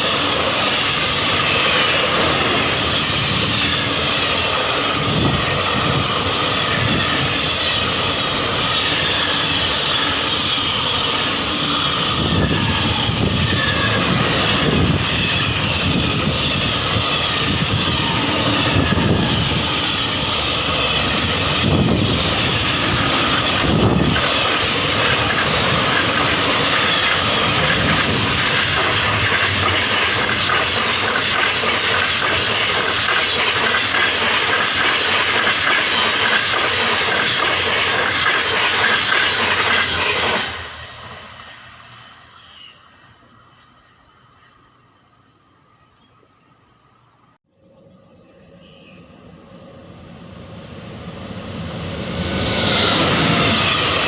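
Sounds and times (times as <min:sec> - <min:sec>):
train rushing on rails: 0:00.0 - 0:54.0.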